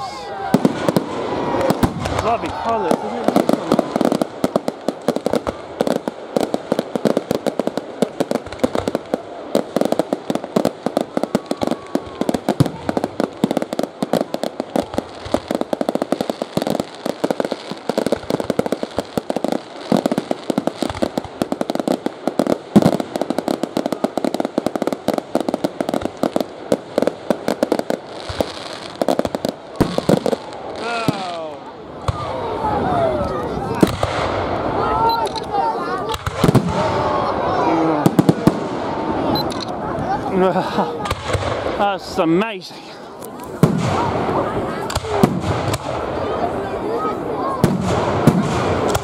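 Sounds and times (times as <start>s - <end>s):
fireworks bursting: 0.0s - 49.0s.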